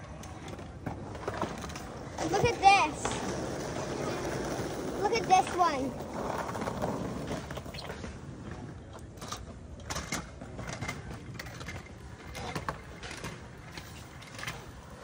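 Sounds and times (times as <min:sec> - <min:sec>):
skateboard rolling on concrete: 0:00.0 - 0:15.0
skateboard wheels clicking and clacking: 0:00.0 - 0:15.0.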